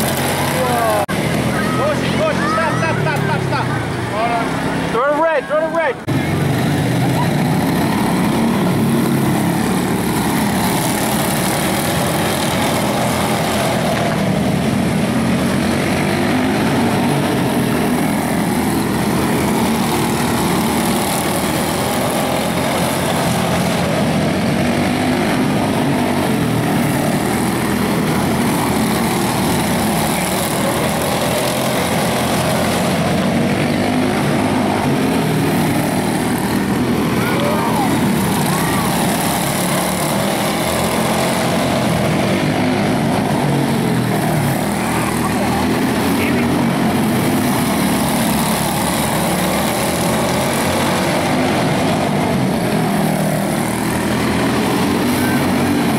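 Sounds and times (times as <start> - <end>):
small race car engines buzzing: 0.0 - 55.9.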